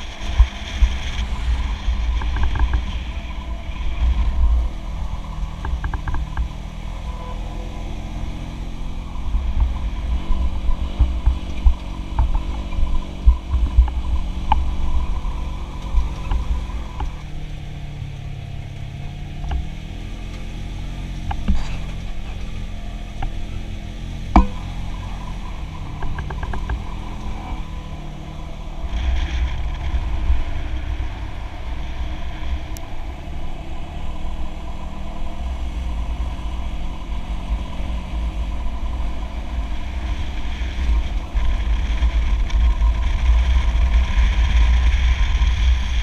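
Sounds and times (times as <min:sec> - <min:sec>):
utility vehicle engine rumbling: 0:00.0 - 0:46.0.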